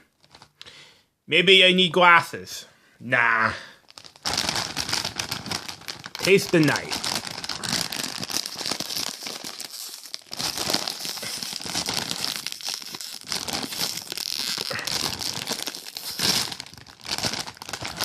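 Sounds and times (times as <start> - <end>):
foil chip bag crinkling: 0.2 - 0.5, 3.8 - 18.0.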